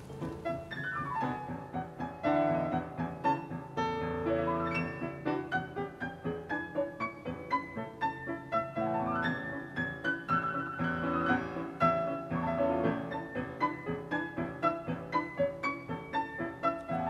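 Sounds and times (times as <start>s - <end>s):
classical piano piece: 0.0s - 17.0s.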